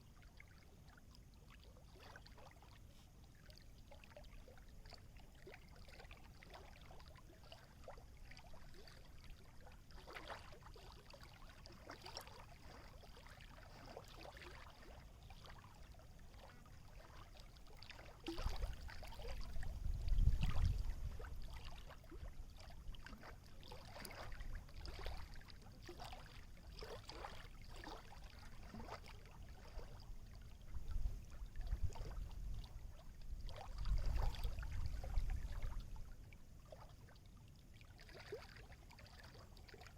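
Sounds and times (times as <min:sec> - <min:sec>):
small waves lapping: 0:00.1 - 0:39.9.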